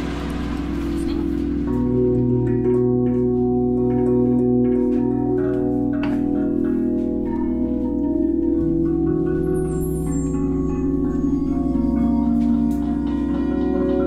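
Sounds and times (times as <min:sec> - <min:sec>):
singing bowls and gongs ringing: 0:00.0 - 0:14.0.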